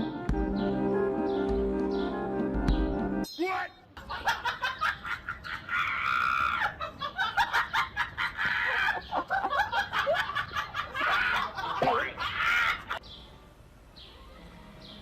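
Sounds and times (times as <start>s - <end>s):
harsh bird calls: 0.0s - 13.4s.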